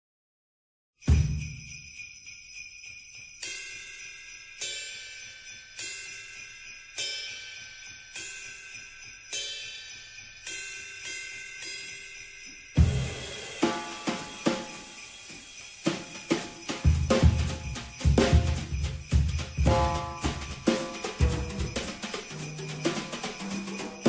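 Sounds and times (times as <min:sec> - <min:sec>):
jingling bell-like music: 0:01.0 - 0:24.0.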